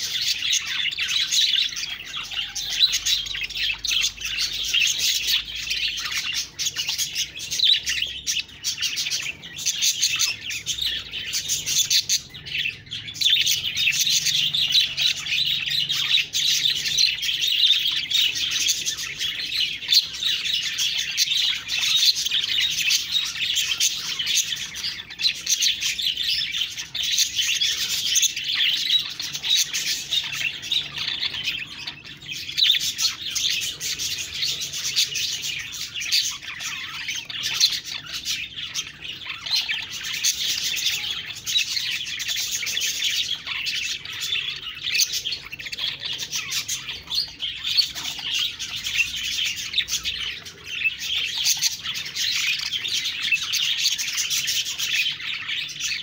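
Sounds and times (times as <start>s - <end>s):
budgies chirping and chattering: 0.0s - 56.0s.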